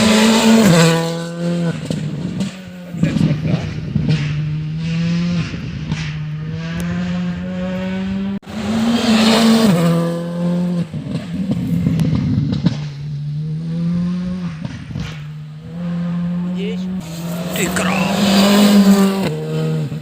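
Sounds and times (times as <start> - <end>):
rally car engine accelerating: 0.0 - 20.0.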